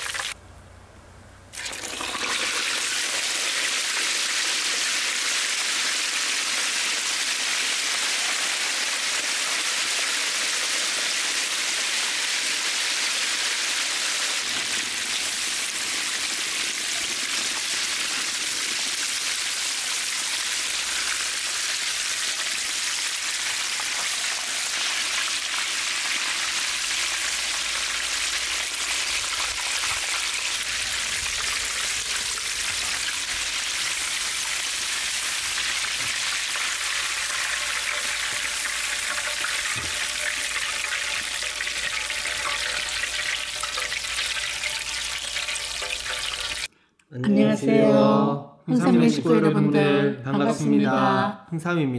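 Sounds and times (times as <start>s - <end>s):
chicken deep-frying in oil: 0.0s - 0.4s, 1.5s - 46.7s.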